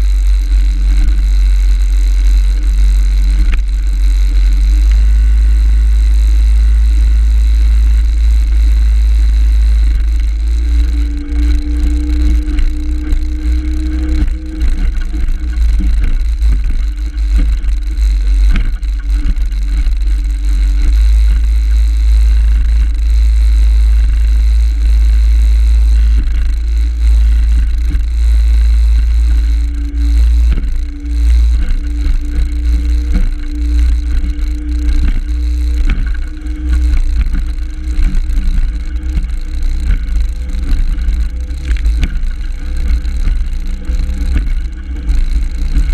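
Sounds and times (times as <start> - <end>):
outboard motor running: 0.0 - 45.9
wind on microphone: 0.0 - 45.9.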